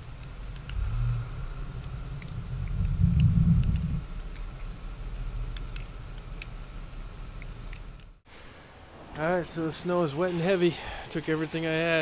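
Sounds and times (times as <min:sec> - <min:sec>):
truck engine rumbling: 0:00.0 - 0:10.3.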